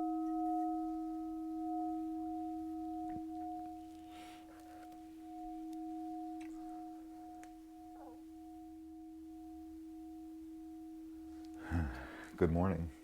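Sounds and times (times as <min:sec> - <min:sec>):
two-pitch droning tone: 0:00.0 - 0:11.7.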